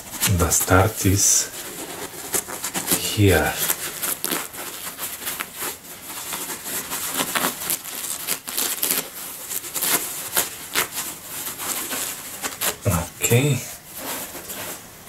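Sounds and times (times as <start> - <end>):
paper rustling and scraping: 0.0 - 15.0
paper tearing: 0.3 - 13.0.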